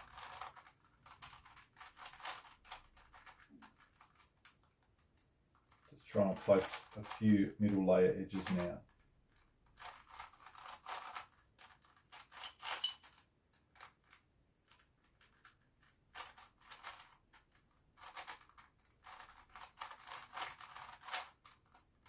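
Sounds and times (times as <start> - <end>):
plastic puzzle clicking: 0.0 - 22.0.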